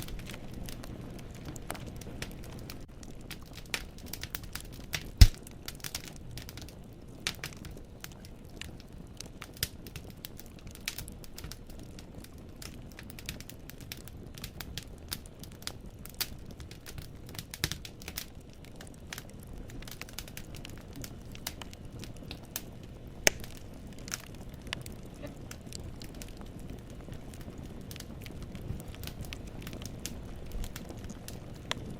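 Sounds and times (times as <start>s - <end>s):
logs crackling and popping: 0.0s - 31.9s
low rumble of flames: 0.0s - 31.9s.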